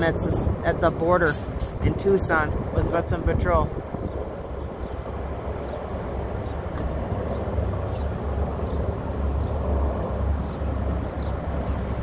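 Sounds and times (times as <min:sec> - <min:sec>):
distant helicopters rotor drone: 0:00.0 - 0:12.0.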